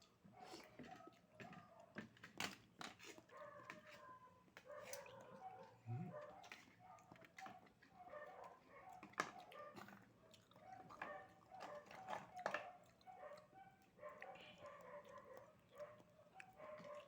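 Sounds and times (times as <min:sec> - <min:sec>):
faint dog barking: 0:00.3 - 0:02.1, 0:03.2 - 0:17.0.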